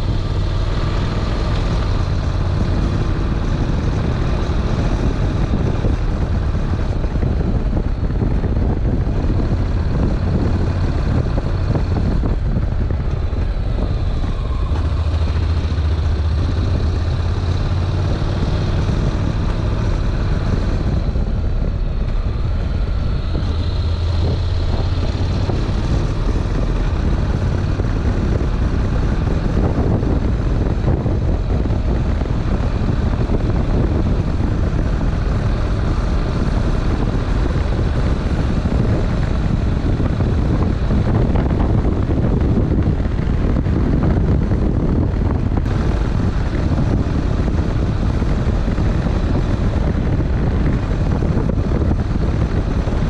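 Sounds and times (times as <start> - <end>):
motorcycle engine running: 0.0 - 53.0
wind rumble on microphone: 0.0 - 53.0.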